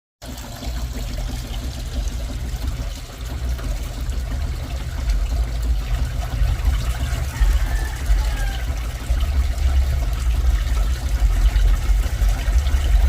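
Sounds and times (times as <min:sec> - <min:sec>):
water trickling: 0:00.2 - 0:13.0.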